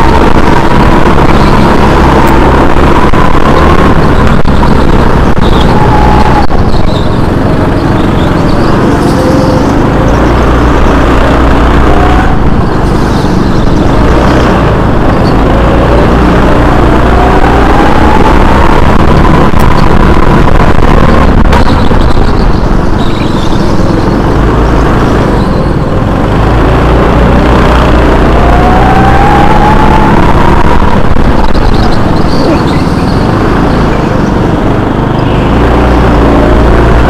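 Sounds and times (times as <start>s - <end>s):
low rumble: 0.0s - 34.8s
go-kart engine running hard: 0.0s - 37.0s.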